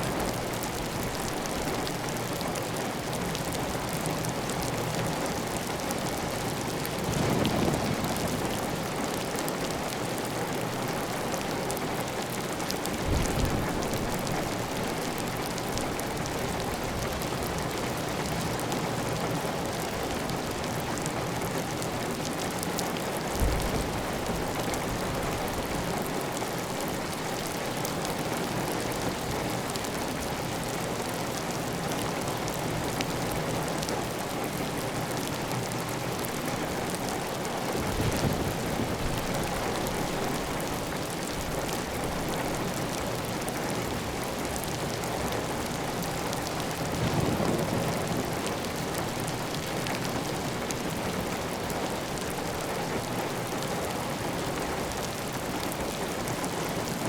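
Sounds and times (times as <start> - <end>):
heavy rain on a tile roof: 0.0 - 57.0.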